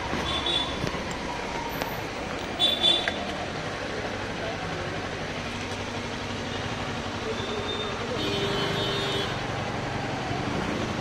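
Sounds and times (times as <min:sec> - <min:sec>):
street traffic noise: 0:00.0 - 0:11.0
vehicle engine: 0:00.0 - 0:11.0.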